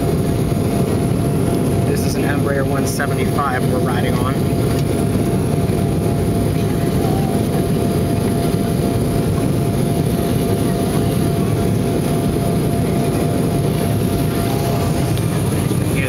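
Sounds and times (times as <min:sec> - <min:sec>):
jet engine rumble in cabin: 0:00.0 - 0:16.0.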